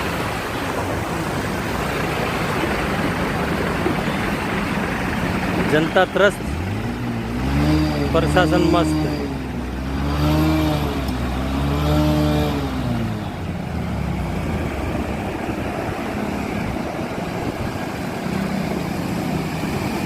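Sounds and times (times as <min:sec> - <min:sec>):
road traffic noise: 0:00.0 - 0:20.0
vehicle engine revving: 0:00.0 - 0:20.0.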